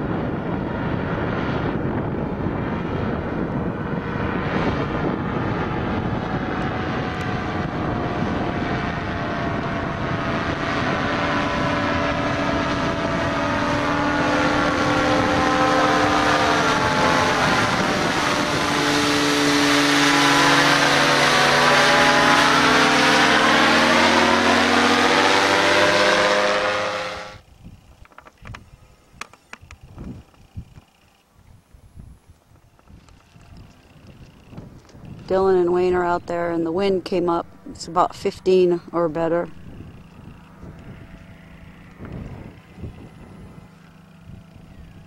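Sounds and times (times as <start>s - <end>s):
faint wind: 0.0s - 45.0s
propeller engine flying past: 0.0s - 45.0s.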